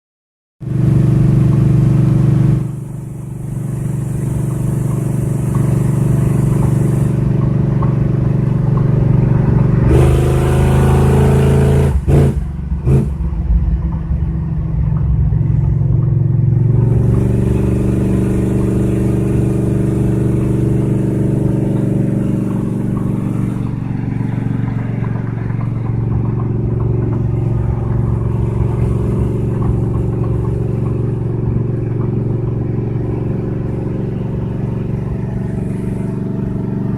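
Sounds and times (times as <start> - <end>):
bus engine running: 0.6 - 36.9
road noise: 0.6 - 36.9.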